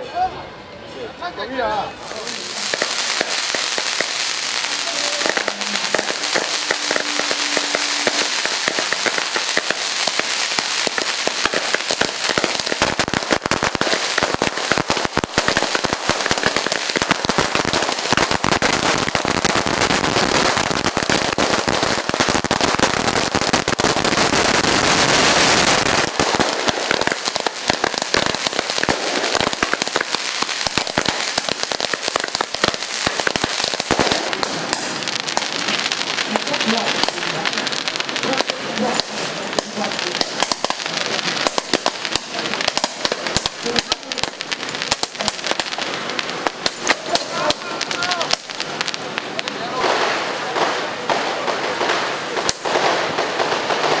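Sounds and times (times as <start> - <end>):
firecrackers crackling: 1.6 - 54.0.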